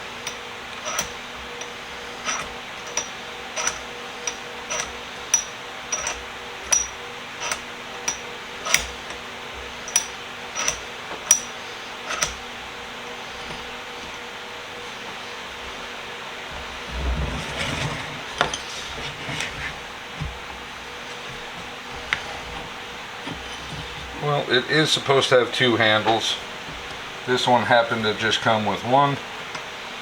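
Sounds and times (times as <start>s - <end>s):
steady fan hum: 0.0s - 30.0s.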